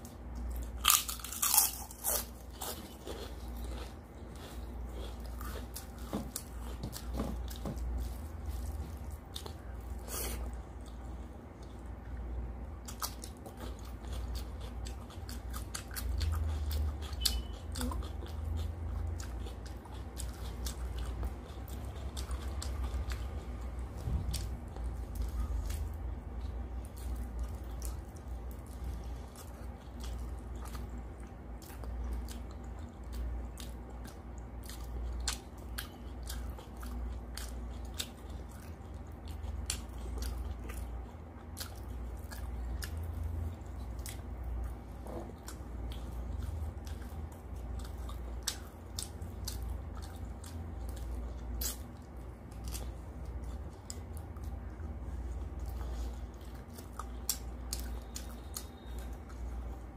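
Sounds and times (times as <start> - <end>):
chewing and wet mouth sounds: 0.0 - 59.9
low steady hum: 0.0 - 59.9.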